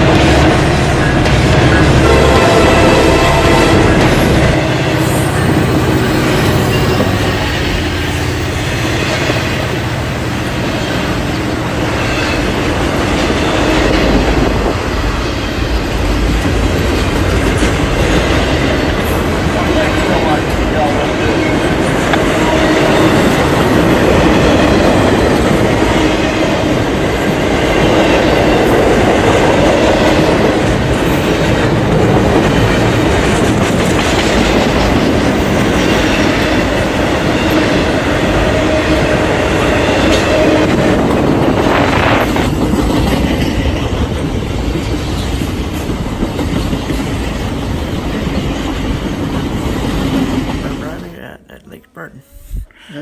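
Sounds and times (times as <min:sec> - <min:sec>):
train running along track: 0:00.0 - 0:51.0.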